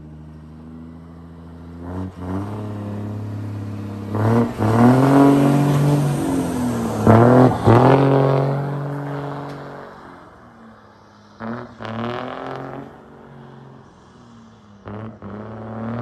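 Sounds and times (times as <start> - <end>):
diesel truck engine accelerating: 0.0 - 16.0.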